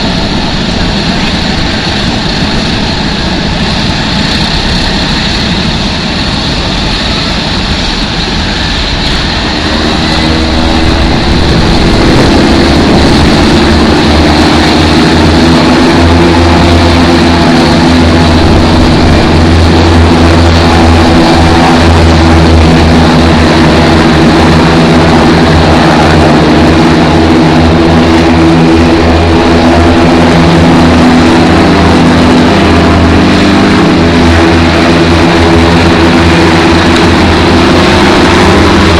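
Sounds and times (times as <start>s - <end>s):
turboprop engines running: 0.0s - 38.9s.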